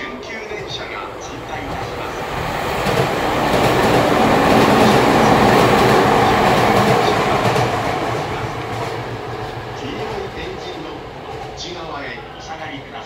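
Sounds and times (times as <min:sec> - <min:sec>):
electric train wheels on rails: 0:00.0 - 0:13.0.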